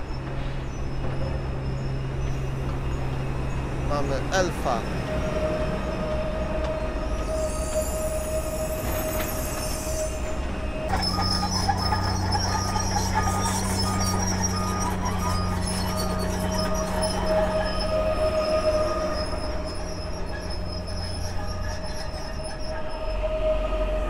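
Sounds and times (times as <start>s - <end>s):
construction machinery hum: 0.0s - 24.0s
electric train whine: 0.0s - 24.0s.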